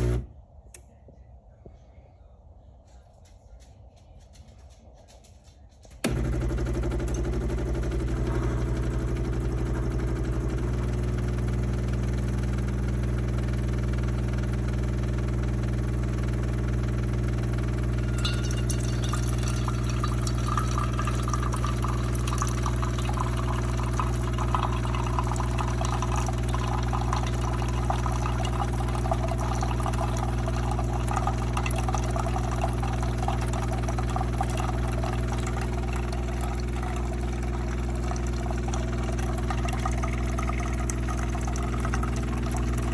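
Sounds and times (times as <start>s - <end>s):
coffee maker pump hum: 0.0s - 0.3s, 6.0s - 42.9s.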